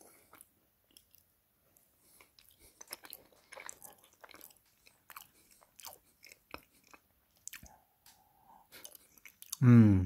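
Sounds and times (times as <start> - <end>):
person chewing: 0.0 - 9.6.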